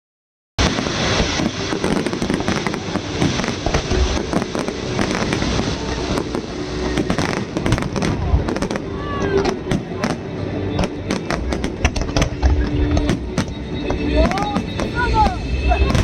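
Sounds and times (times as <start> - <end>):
fireworks bangs and crackling: 0.6 - 16.0
fireworks low booms: 0.6 - 16.0.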